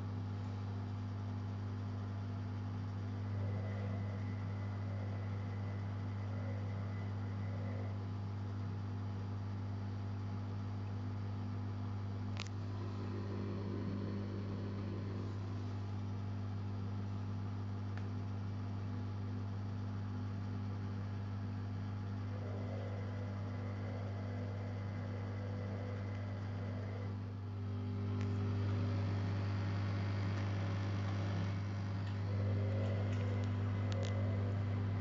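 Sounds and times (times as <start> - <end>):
washer-dryer electrical hum: 0.0 - 35.0.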